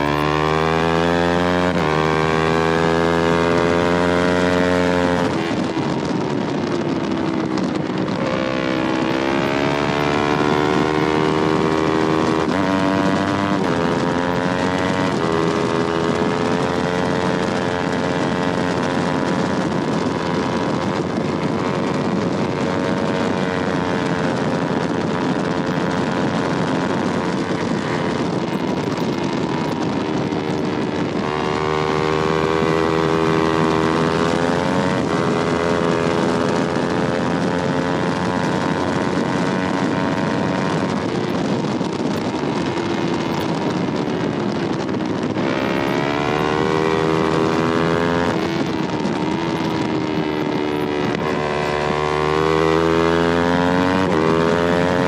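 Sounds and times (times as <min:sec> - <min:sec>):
motorcycle engine at high revs: 0:00.0 - 0:55.0
wind noise: 0:00.0 - 0:55.0.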